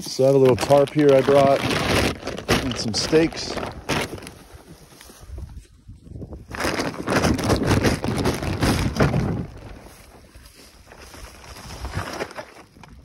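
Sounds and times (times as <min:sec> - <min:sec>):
plastic tarp rustling and crinkling: 0:00.0 - 0:13.0.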